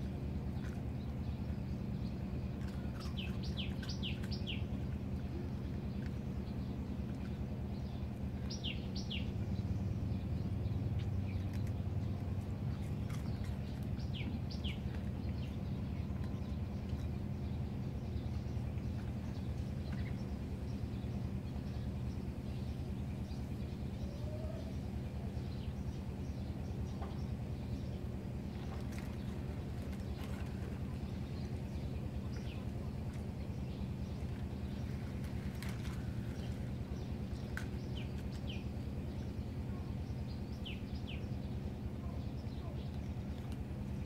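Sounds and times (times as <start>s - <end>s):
birds chirping: 0.0s - 44.0s
steady low rumble: 0.0s - 44.0s.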